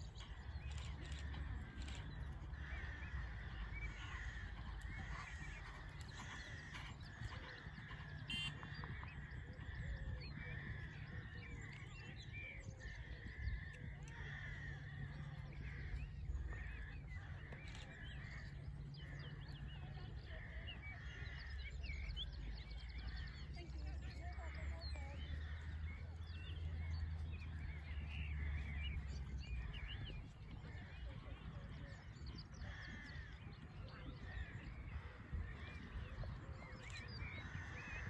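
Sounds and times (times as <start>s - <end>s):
birds chirping and calling: 0.0s - 38.0s
steady low rumble: 0.0s - 38.0s.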